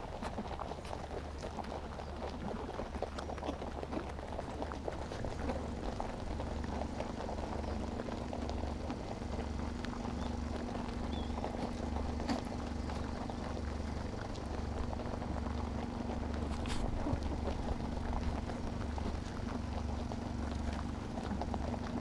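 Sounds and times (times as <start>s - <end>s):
rabbits nibbling pellets: 0.0s - 22.0s
steady low hum: 0.0s - 22.0s.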